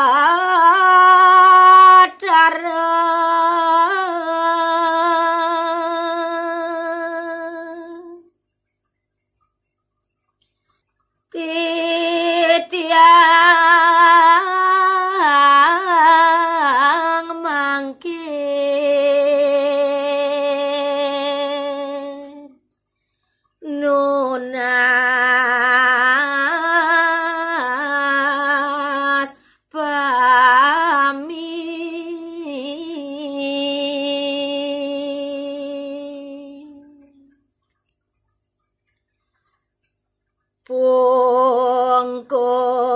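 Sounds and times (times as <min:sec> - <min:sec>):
woman singing unaccompanied: 0:00.0 - 0:08.4, 0:11.3 - 0:22.6, 0:23.6 - 0:37.5, 0:40.6 - 0:42.9.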